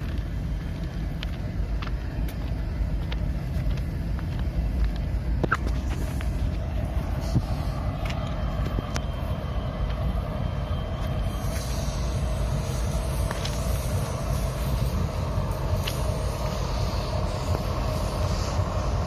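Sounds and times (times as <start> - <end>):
locomotives idling: 0.0 - 19.0.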